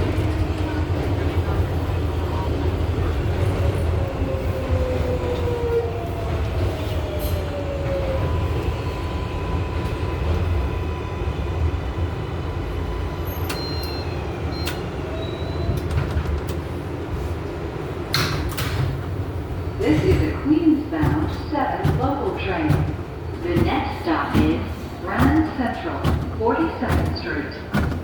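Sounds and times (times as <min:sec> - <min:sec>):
subway car rumble: 0:00.0 - 0:28.0.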